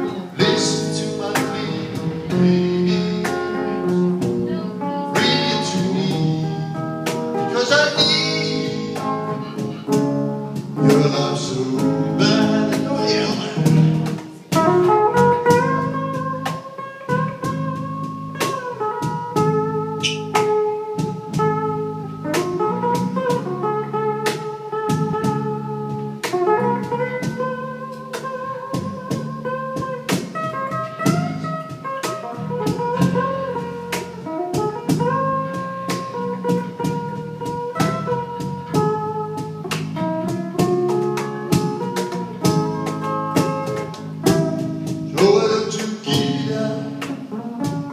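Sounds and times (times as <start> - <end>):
drums: 0.0 - 47.9
lead guitar bending notes: 0.0 - 47.9
low accompaniment: 0.0 - 47.9.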